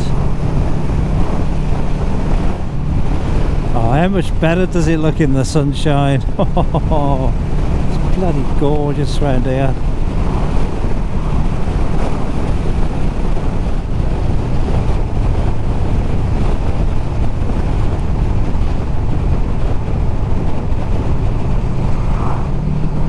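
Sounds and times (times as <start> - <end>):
motorcycle engine running: 0.0 - 5.6, 6.2 - 23.0
wind rushing on microphone: 0.0 - 23.0.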